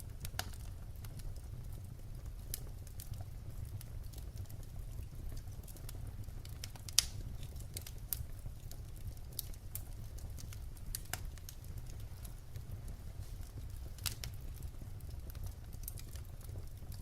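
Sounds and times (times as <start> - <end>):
low rumble of fire: 0.0 - 17.0
wood fire popping and snapping: 0.0 - 17.0.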